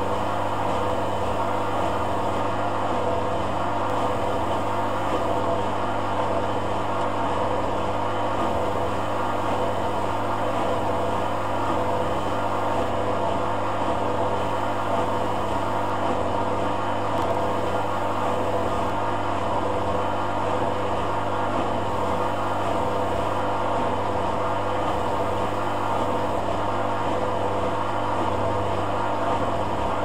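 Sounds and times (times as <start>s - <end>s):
washing machine hum: 0.0s - 30.0s.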